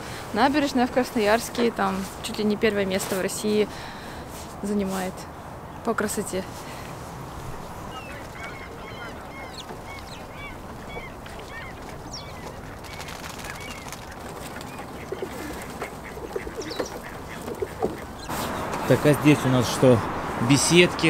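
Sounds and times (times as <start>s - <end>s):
birds chirping: 0.0s - 21.0s
steady background noise: 0.0s - 21.0s.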